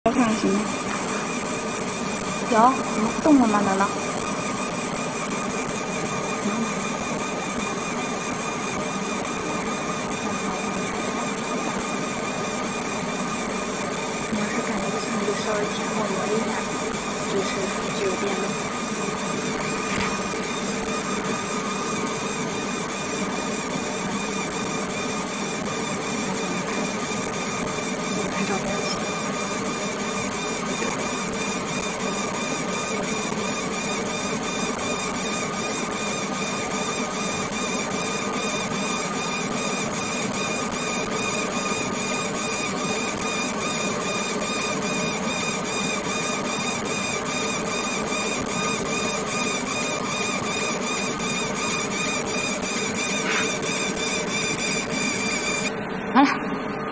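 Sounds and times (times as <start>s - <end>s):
laser marking machine buzzing: 0.0s - 56.9s.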